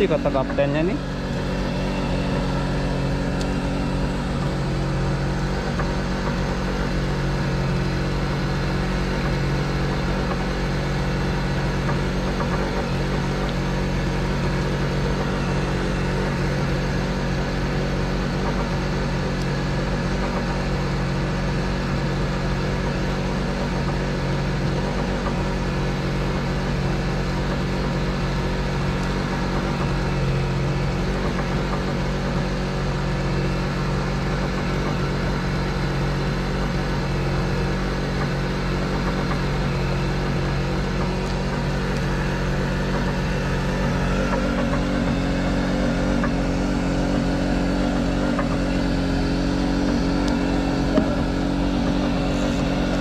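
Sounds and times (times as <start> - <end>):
boat engine idling: 0.0 - 53.0.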